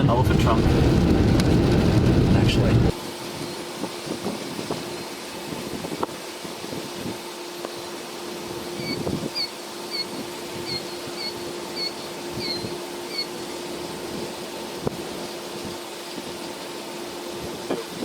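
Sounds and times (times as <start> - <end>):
steady engine hum: 0.0 - 18.0.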